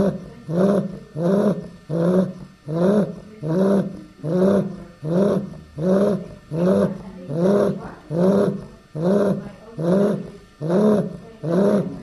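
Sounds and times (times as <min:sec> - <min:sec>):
puppy snoring: 0:00.0 - 0:12.0.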